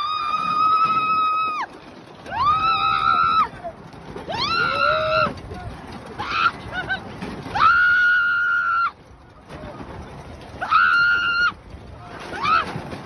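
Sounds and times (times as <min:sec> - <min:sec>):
riders screaming: 0:00.0 - 0:09.0, 0:10.5 - 0:13.0
roller coaster train moving: 0:00.0 - 0:13.0.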